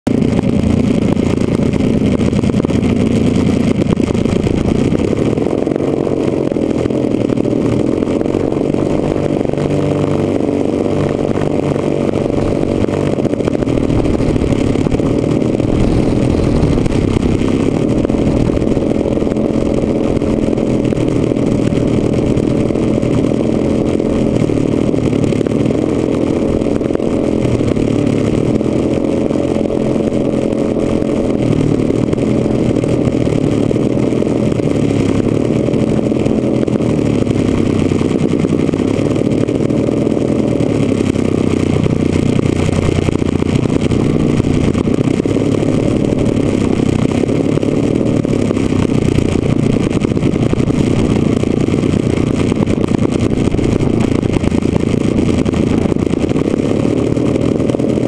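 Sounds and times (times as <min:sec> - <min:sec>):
model airplane engine running: 0:00.1 - 0:58.0.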